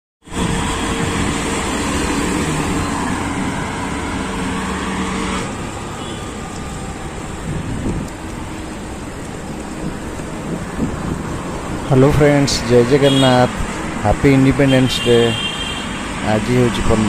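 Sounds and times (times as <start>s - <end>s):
road traffic noise: 0.2s - 17.0s.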